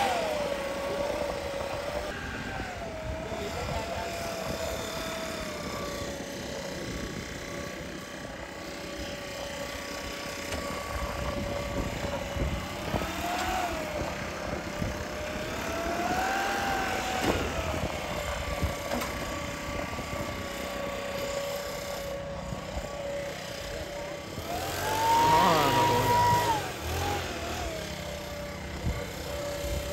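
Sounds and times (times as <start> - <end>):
diesel engine revving: 0.0 - 6.1, 9.2 - 29.9.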